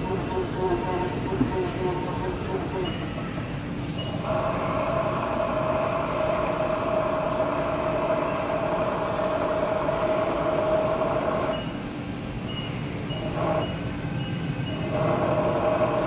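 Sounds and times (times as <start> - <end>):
milling machine table motor whine: 0.0 - 3.4, 4.0 - 11.8, 12.6 - 16.0.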